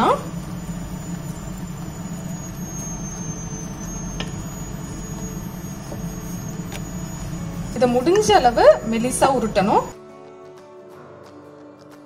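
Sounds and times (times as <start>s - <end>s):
motor humming: 0.0s - 9.9s.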